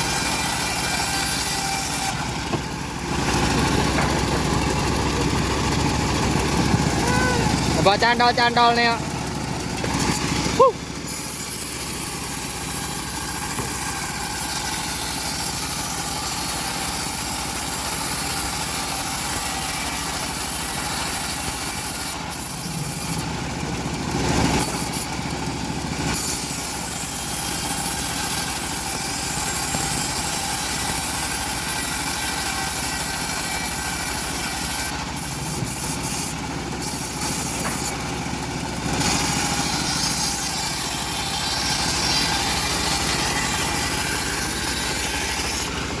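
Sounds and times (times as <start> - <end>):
bandsaw mill sawing log: 0.0 - 46.0
engine running: 0.0 - 46.0.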